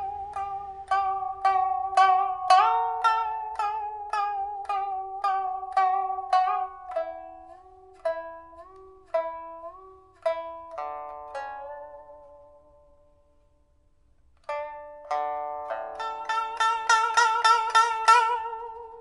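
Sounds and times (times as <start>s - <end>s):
plucked lute notes: 0.0s - 19.0s.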